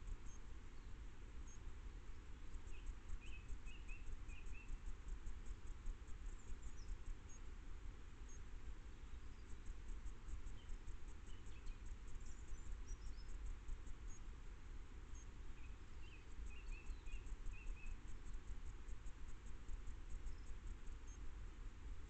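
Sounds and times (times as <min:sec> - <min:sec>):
song thrush singing: 0:00.0 - 0:07.5, 0:08.2 - 0:14.4, 0:15.1 - 0:21.3.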